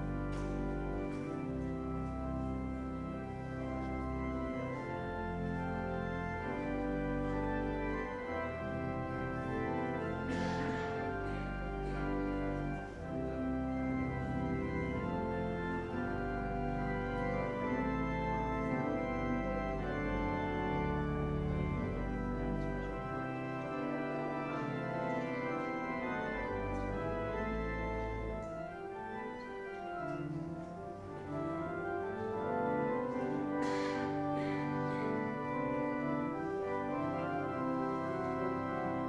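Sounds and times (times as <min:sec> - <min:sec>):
organ playing sustained chords: 0:00.0 - 0:39.0.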